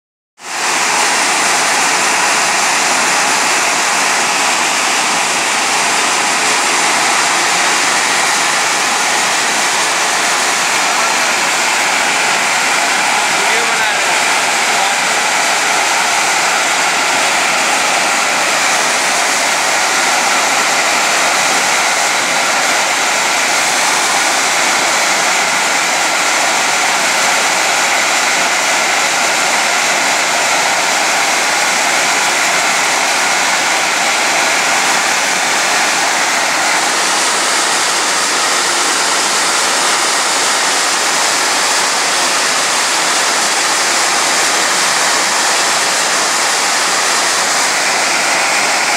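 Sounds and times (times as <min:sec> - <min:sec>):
steam venting hiss: 0:00.4 - 0:48.9.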